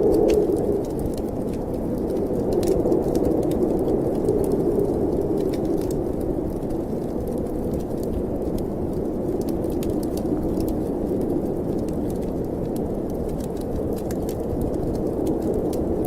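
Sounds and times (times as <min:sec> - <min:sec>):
snowstorm wind howling: 0:00.0 - 0:16.0
wood fire crackling: 0:00.0 - 0:16.0.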